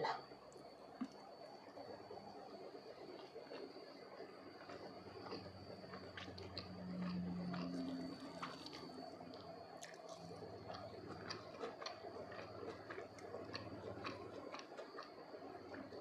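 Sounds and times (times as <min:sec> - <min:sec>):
chewing soft wet food: 0:00.4 - 0:16.0.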